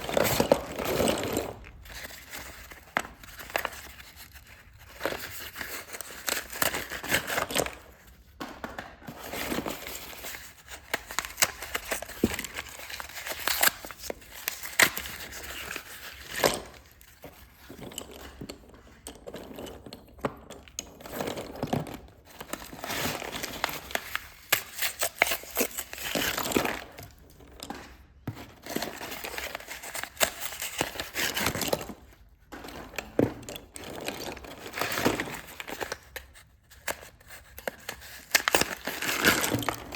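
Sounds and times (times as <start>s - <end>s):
slate pencils crushed by hand: 0.0s - 39.9s.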